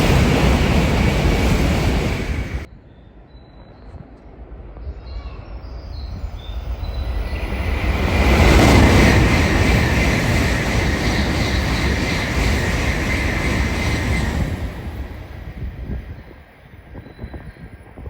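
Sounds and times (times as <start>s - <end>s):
bullet train passing at speed: 0.0s - 2.7s, 6.0s - 18.0s.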